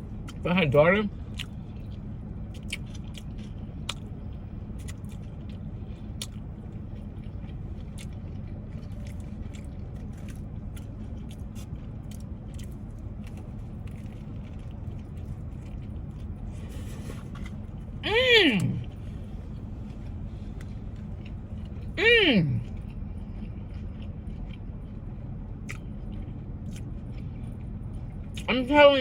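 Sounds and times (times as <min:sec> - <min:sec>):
chewing sandwich: 0:00.0 - 0:00.5, 0:01.1 - 0:18.0, 0:18.6 - 0:28.5
steady low hum: 0:00.0 - 0:29.0.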